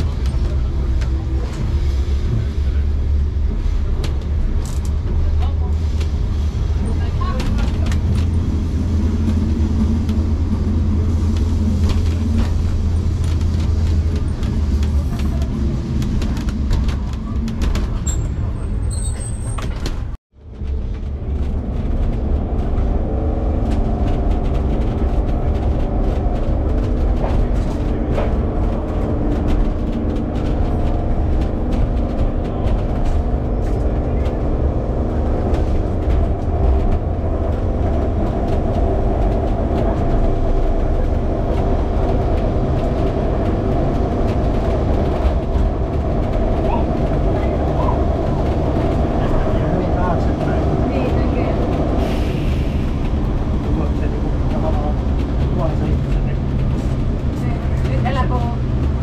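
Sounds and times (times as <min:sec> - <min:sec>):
tram rumbling on rails: 0:00.0 - 0:59.0
wheels clicking and rattling on track: 0:00.0 - 0:59.0.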